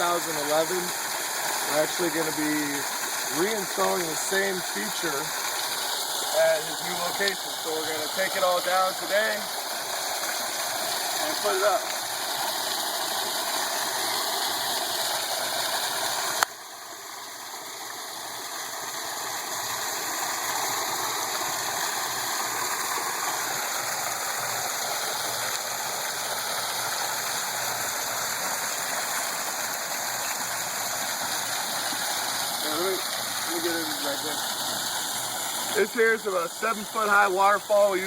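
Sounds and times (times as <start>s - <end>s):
waterfall splashing: 0.0s - 38.0s.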